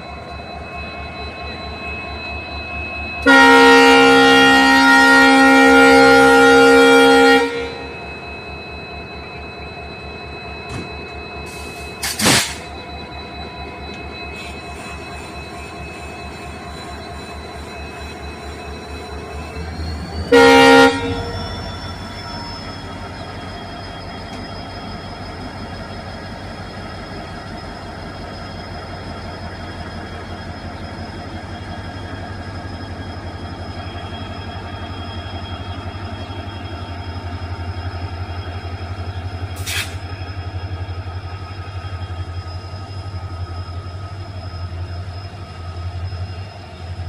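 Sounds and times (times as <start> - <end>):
faint high whining tones: 0.0 - 3.3, 6.1 - 47.0
diesel locomotive engine rumbling: 0.0 - 47.0.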